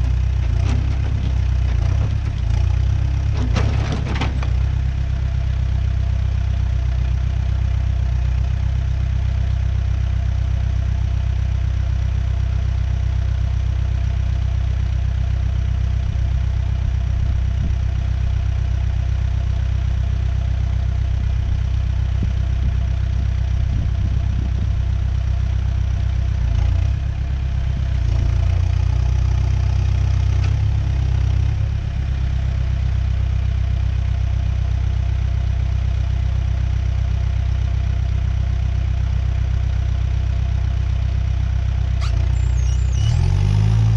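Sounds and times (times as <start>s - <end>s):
diesel engine idling: 0.0s - 3.4s, 4.5s - 43.9s.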